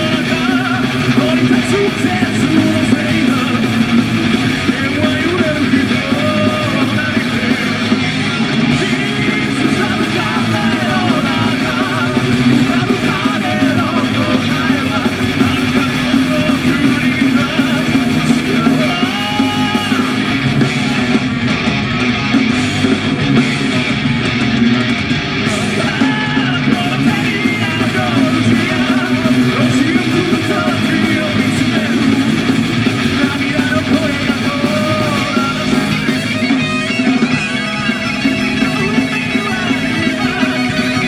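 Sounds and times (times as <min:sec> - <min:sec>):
man singing lead vocals: 0:00.0 - 0:21.3, 0:25.4 - 0:41.0
heavy metal band playing: 0:00.0 - 0:41.0.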